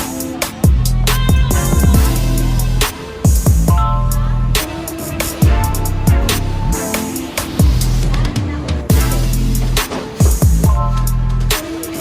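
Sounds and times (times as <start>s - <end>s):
hip hop beat: 0.0s - 12.0s.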